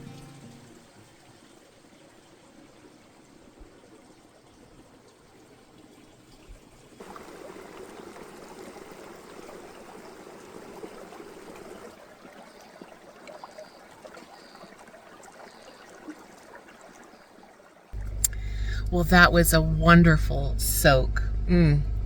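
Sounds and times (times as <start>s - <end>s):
water trickling and flowing: 0.0s - 21.4s.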